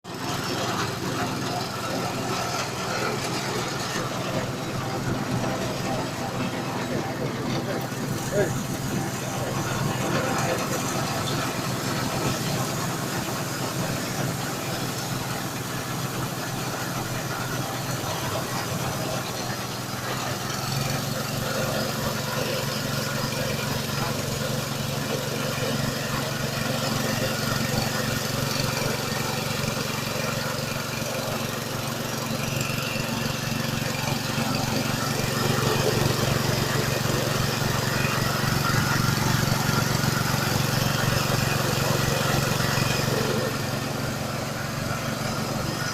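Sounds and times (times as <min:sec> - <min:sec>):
grass chopper machine droning: 0:00.0 - 0:45.9.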